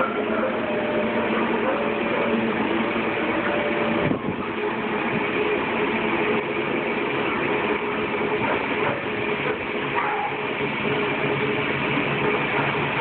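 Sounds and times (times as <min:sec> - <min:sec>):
steady mechanical drone: 0:00.0 - 0:13.0.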